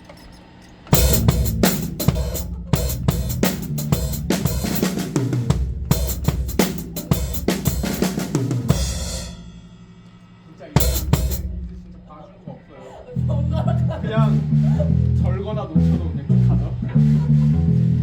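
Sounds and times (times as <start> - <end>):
drum kit groove: 0.9 - 12.4, 13.5 - 18.0.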